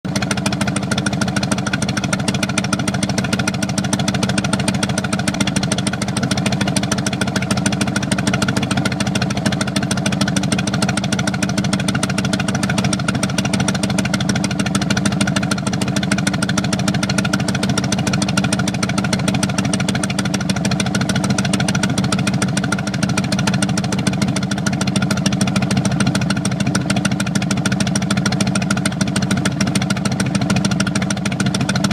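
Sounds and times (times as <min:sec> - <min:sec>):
motorcycle exhaust idling: 0:00.1 - 0:31.9.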